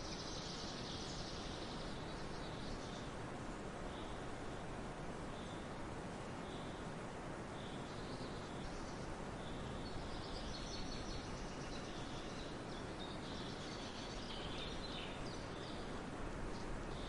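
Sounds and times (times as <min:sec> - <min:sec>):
small birds chirping: 0:00.0 - 0:06.9, 0:07.5 - 0:17.0
steady background hiss: 0:00.0 - 0:17.0.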